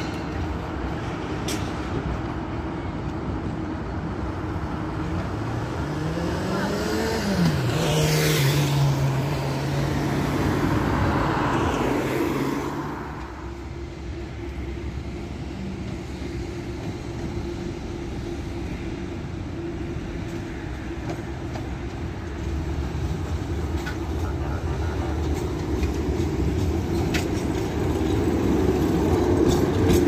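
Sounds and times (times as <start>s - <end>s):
low hum of city traffic: 0.0s - 30.0s.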